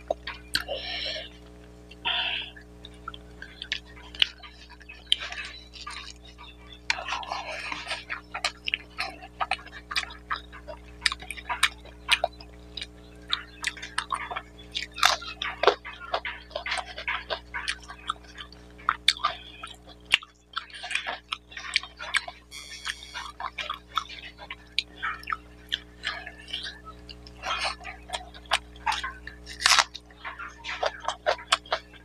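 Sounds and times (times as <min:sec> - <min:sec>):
wet chewing and lip smacking: 0:00.0 - 0:02.1, 0:02.8 - 0:22.4, 0:23.2 - 0:32.0.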